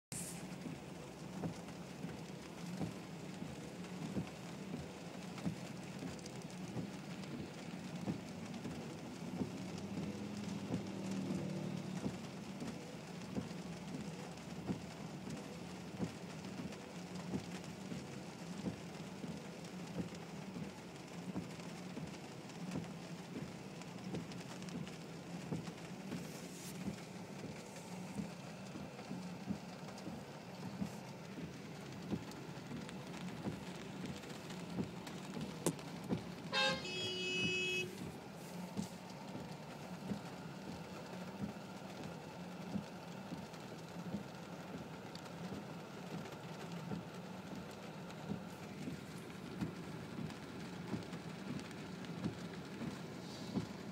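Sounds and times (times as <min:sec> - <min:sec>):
rain on car roof: 0:00.1 - 0:53.9.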